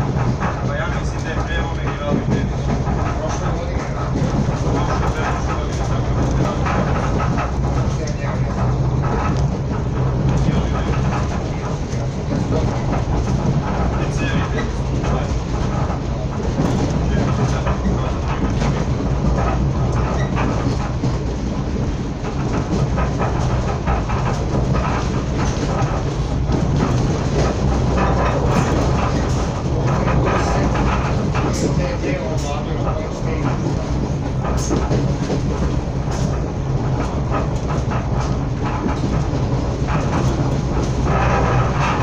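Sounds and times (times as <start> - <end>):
train rumbling inside carriage: 0.0 - 42.0
wheels clicking over rail joints: 0.0 - 42.0.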